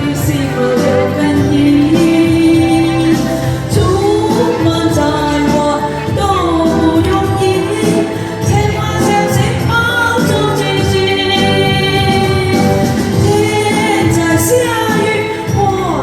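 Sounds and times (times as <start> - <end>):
slow pop ballad: 0.0 - 16.0.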